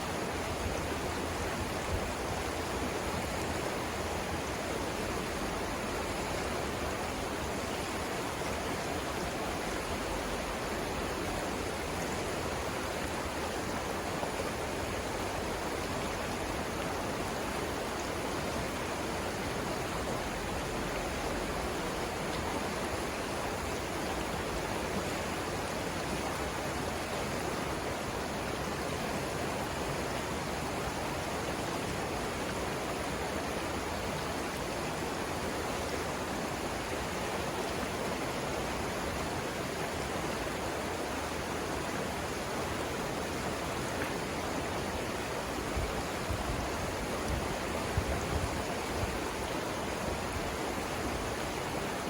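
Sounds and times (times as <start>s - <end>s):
river rapids rushing: 0.0s - 52.0s.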